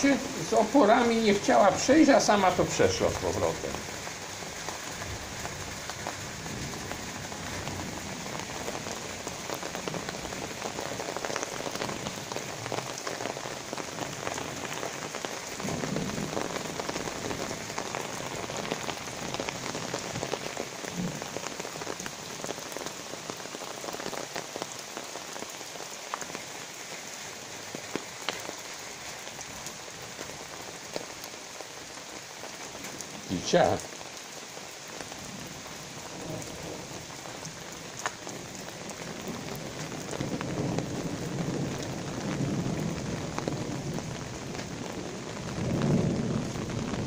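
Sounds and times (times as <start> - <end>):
rain falling steadily: 0.0 - 47.0.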